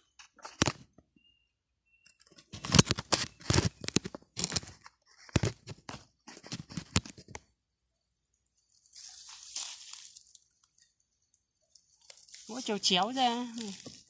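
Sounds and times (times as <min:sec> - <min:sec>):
bamboo cracking and scraping: 0:00.0 - 0:01.0, 0:02.0 - 0:07.6, 0:08.5 - 0:14.0.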